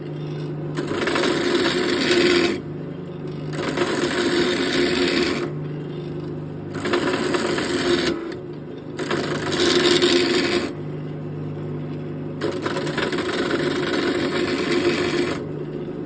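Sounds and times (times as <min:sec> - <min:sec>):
turning tool scraping wood: 0:00.0 - 0:10.8, 0:12.4 - 0:16.0
lathe humming: 0:00.0 - 0:16.0.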